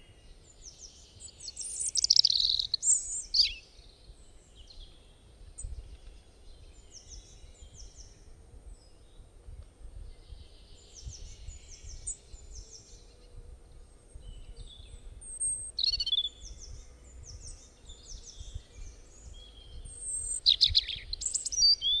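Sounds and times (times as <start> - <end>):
birds chirping: 0.0 - 22.0
faint low rumble: 3.6 - 21.6.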